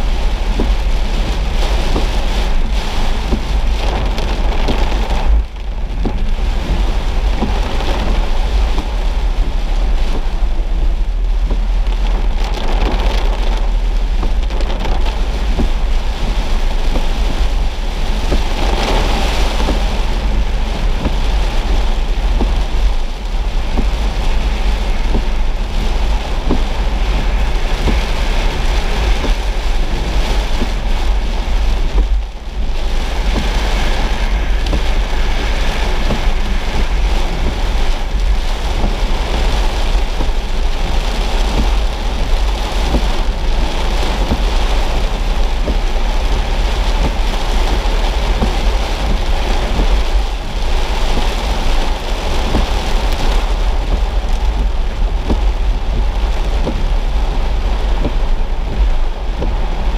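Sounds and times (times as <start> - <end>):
car driving on wet road: 0.0 - 59.9
heavy rain on car windshield: 0.0 - 59.9.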